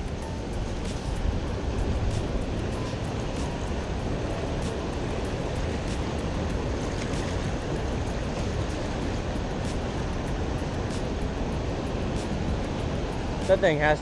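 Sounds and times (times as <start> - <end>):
water splashing: 0.0 - 13.6
river rushing over rocks: 0.0 - 14.0.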